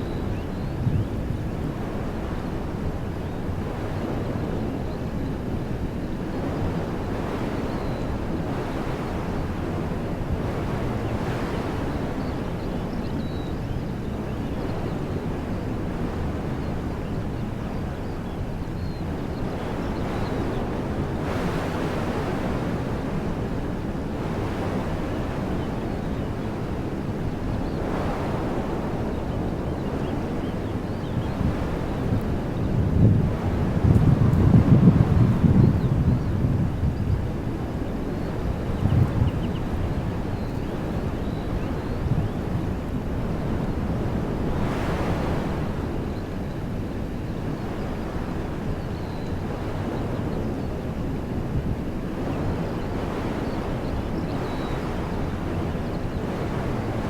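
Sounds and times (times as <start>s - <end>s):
wind rumble on microphone: 0.0s - 57.0s
wind rushing through trees: 0.0s - 57.0s.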